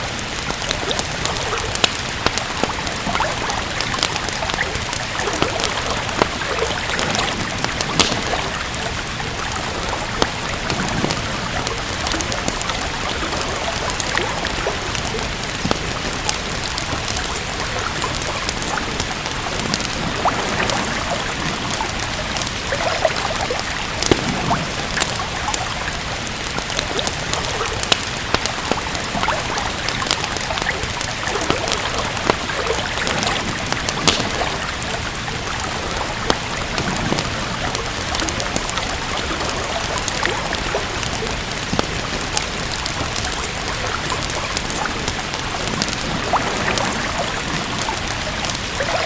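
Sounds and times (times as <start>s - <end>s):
steady rain: 0.0s - 49.0s
wood fire crackling and popping: 0.0s - 49.0s.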